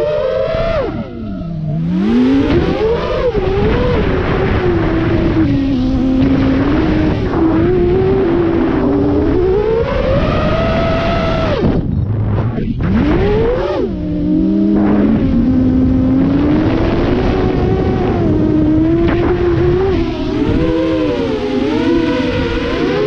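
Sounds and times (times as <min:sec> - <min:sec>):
drone motors whining: 0:00.0 - 0:23.0
steady rushing noise: 0:00.0 - 0:23.0.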